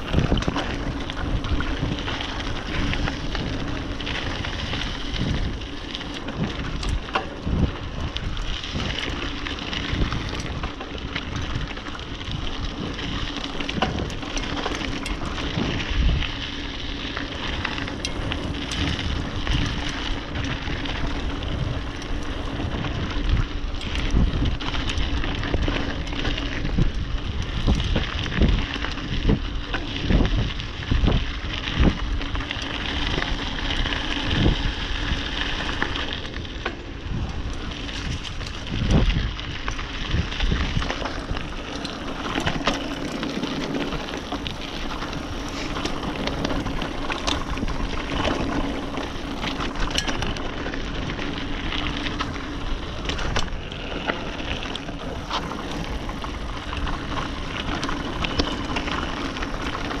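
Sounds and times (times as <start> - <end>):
bike clicks and rattles: 0.0 - 60.0
tyres crunching on dirt: 0.0 - 60.0.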